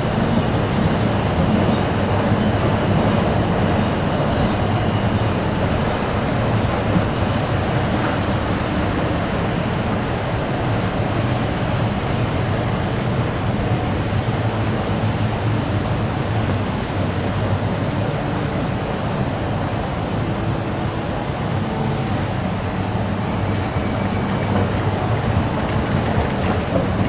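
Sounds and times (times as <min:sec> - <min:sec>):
steady rushing background noise: 0:00.0 - 0:27.0.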